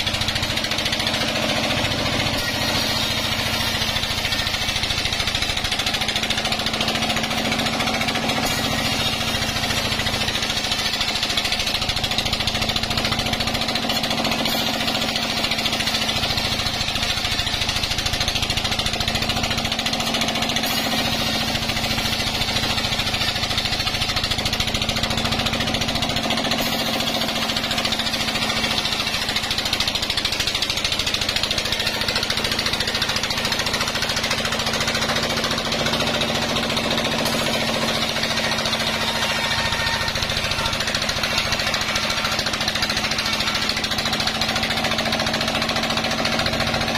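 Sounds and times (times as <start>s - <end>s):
band saw machine hum: 0.0s - 46.9s
saw blade cutting wood: 0.0s - 46.9s.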